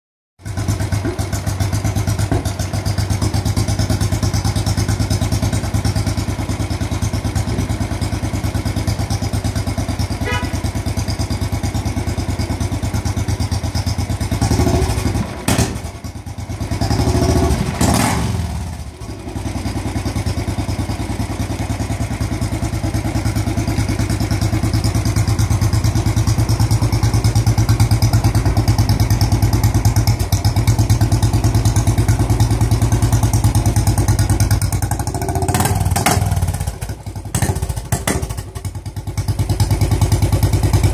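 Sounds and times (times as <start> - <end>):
motorcycle engine idling: 0.4 - 40.9.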